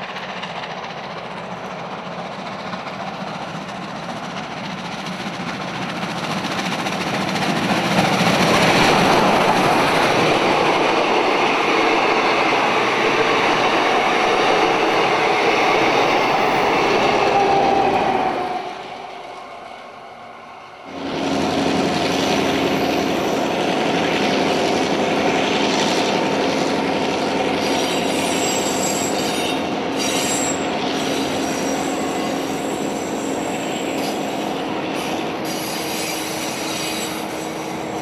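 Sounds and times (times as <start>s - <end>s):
carriages rolling on rails: 0.0s - 38.0s
steam locomotive passing: 0.0s - 38.0s.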